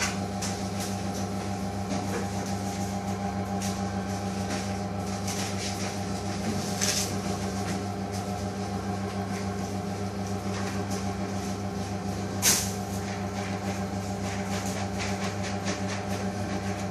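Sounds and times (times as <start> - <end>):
kitchen machinery humming: 0.0 - 16.9.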